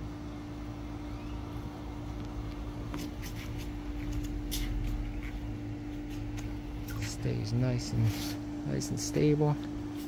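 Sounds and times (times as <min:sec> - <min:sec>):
low hum of machinery: 0:00.0 - 0:10.0.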